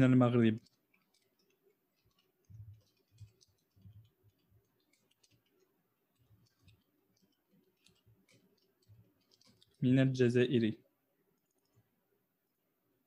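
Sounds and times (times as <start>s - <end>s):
faint keyboard typing: 0.0s - 10.7s, 11.3s - 12.0s.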